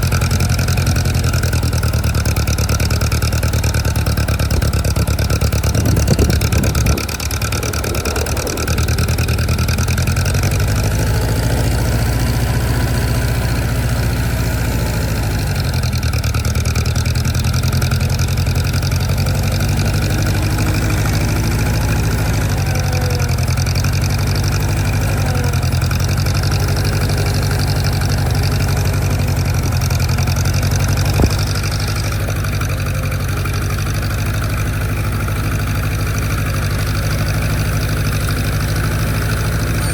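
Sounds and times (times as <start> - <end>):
engine running at low speed: 0.0 - 39.9.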